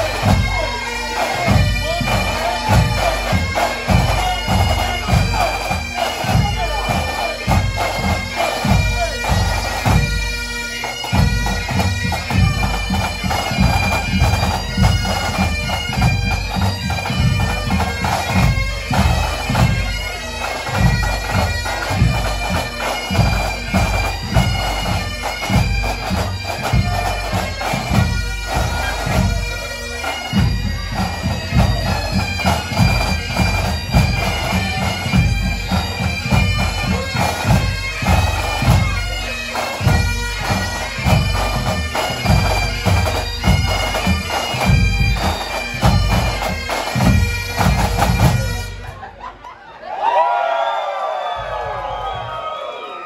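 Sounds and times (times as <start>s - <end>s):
bagpipes playing melody: 0.0s - 49.2s
drums beating driving rhythm: 0.0s - 49.2s.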